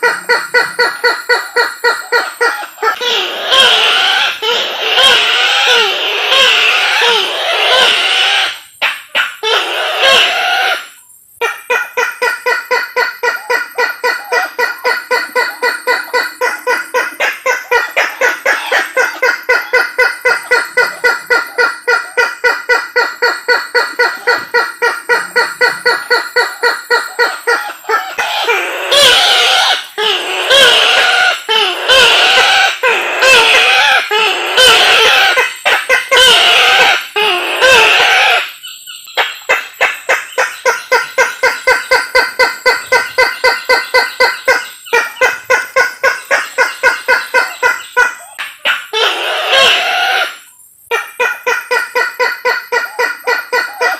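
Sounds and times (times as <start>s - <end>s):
rail bird calling: 0.0s - 53.9s.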